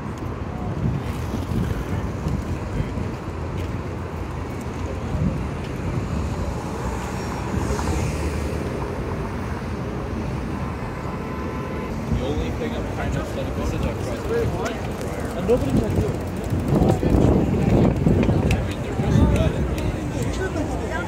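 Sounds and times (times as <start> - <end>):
wind on microphone: 0.0 - 10.8, 11.9 - 21.0.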